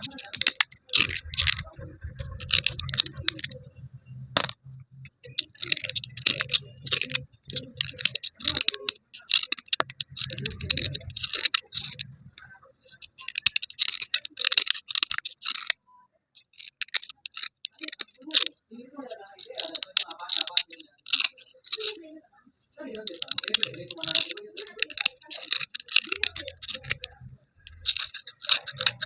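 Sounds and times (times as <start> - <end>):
gritty scraping and clicking: 0.0 - 3.6, 4.4 - 15.8, 16.4 - 22.1, 22.8 - 29.0.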